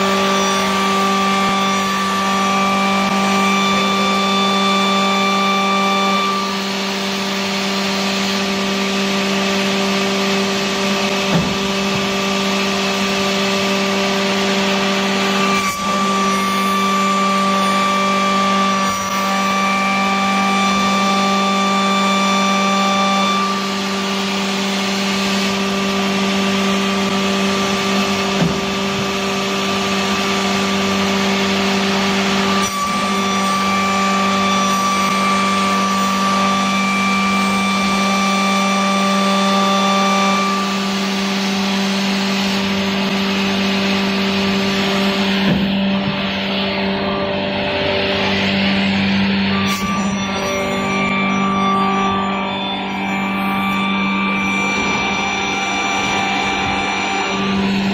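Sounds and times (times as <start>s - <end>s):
shaper machine motor hum and whine: 0.0s - 57.9s.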